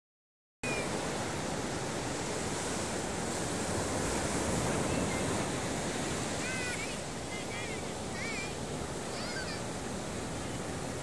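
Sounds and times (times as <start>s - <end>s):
ocean waves washing in: 0.6s - 11.0s.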